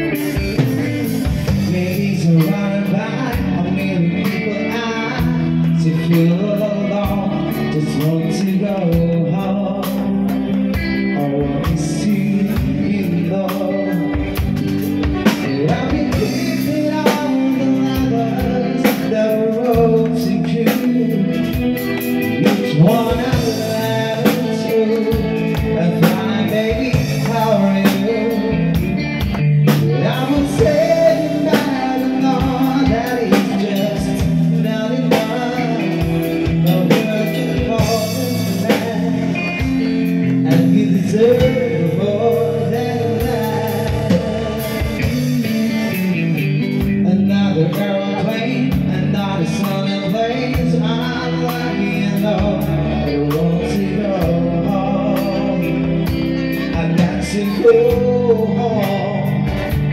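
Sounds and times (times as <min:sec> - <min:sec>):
live band playing: 0:00.0 - 0:59.9
person singing: 0:00.0 - 0:59.9.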